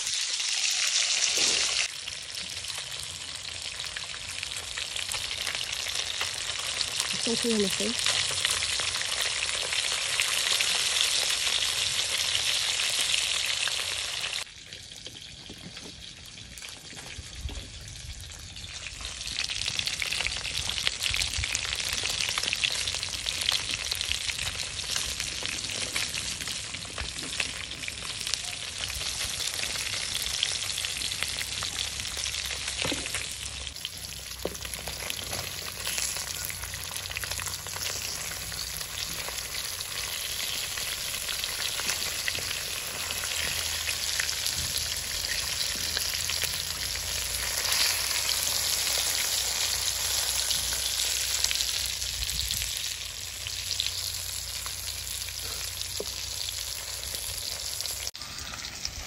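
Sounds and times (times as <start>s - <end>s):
fish frying in hot oil: 0.0s - 59.0s.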